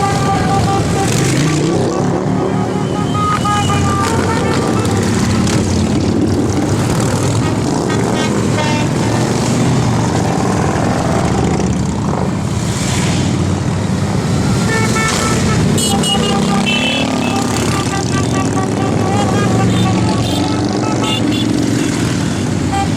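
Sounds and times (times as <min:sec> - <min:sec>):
motorcycle engines rumbling: 0:00.0 - 0:22.9.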